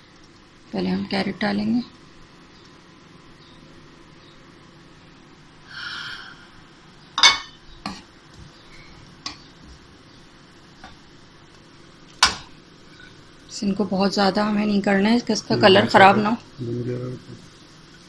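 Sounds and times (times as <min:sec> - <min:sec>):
carrots hissing in a wok: 0:00.0 - 0:18.0.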